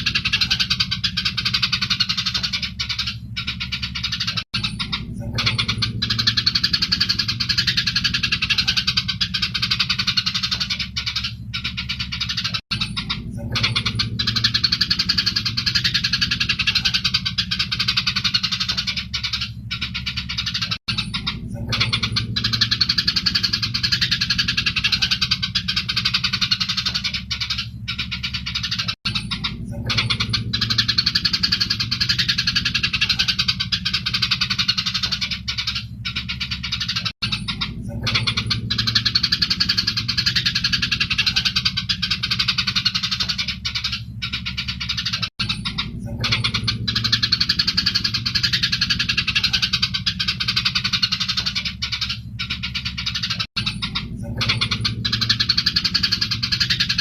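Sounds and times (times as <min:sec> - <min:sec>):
low hum: 0:00.0 - 0:57.0
sparrows chattering: 0:00.0 - 0:57.0.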